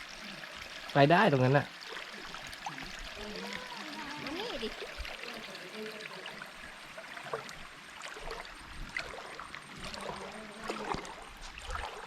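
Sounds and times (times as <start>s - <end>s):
water trickling over rocks: 0.0s - 12.0s.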